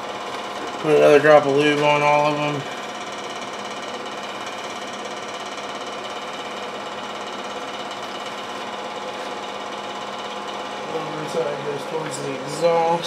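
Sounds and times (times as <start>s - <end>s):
space heaters droning: 0.0s - 13.0s.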